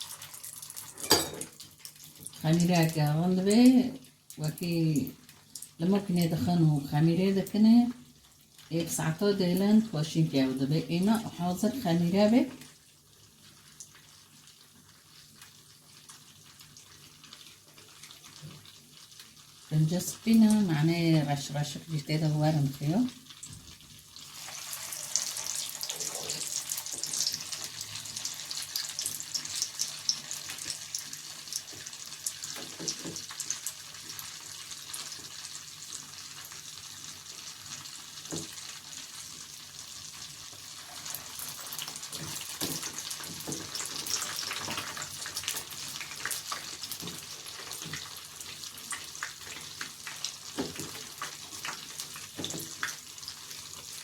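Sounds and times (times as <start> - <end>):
food deep-frying in oil: 0.0 - 54.0.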